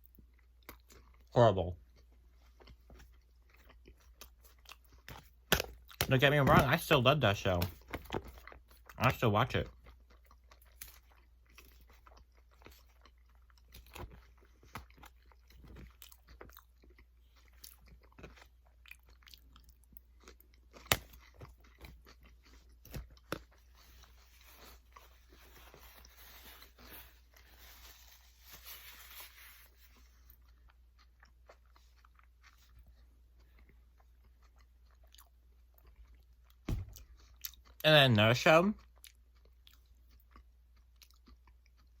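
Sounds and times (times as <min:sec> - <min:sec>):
person chewing and crunching food: 0:00.0 - 0:42.0.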